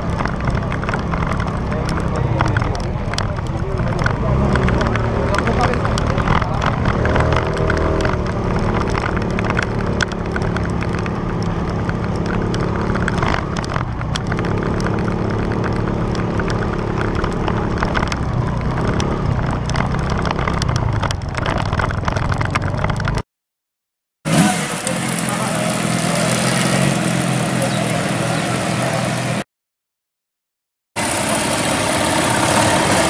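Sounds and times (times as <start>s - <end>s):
motorcycle engine running: 0.0s - 23.2s, 24.3s - 29.4s, 31.0s - 33.0s.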